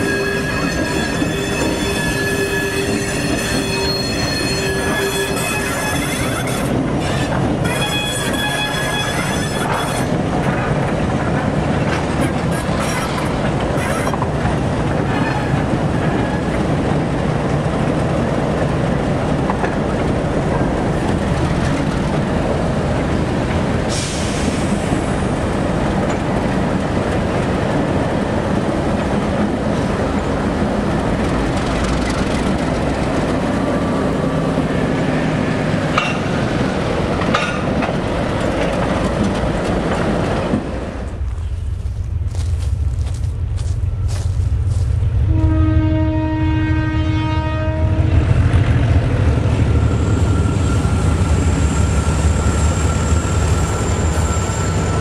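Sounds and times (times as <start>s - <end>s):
steel wheels on rails: 0.0s - 45.3s, 48.3s - 55.0s
diesel locomotive engines rumbling: 0.0s - 55.0s.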